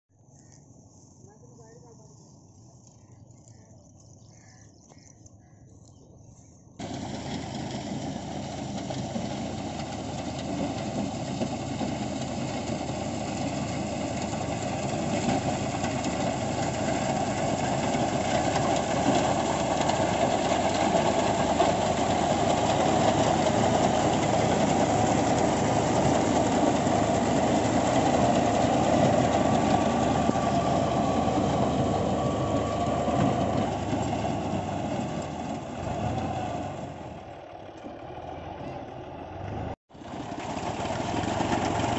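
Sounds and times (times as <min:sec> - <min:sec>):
tractor engine running: 0:06.8 - 0:41.9.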